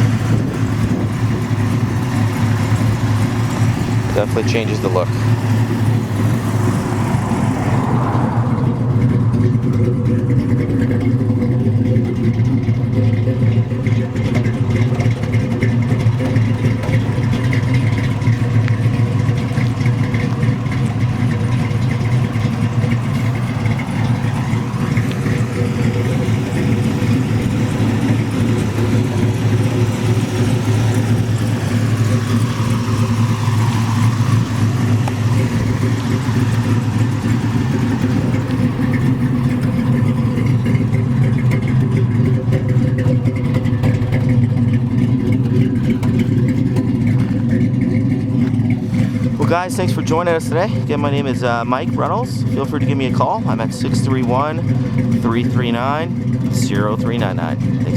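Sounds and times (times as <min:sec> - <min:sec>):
v eight engine idling: 0:00.0 - 0:57.9.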